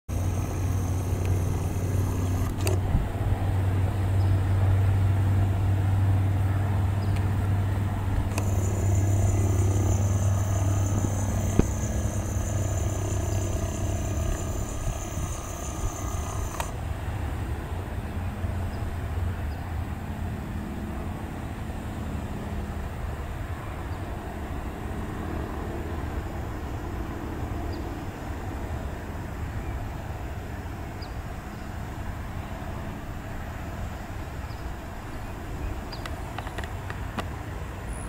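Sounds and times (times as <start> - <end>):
low engine hum: 0.1 - 38.0
road traffic rumble: 0.1 - 38.0.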